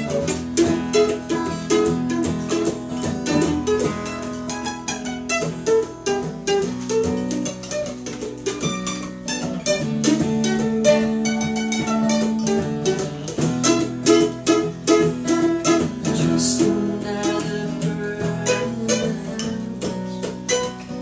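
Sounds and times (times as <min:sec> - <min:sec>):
acoustic plucked strings playing: 0:00.0 - 0:21.0.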